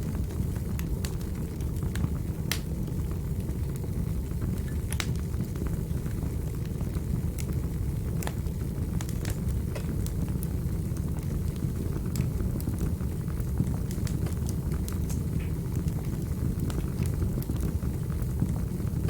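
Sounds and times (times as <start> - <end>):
fire crackles and pops: 0.0 - 19.0
fire rumbling in a fireplace: 0.0 - 19.0.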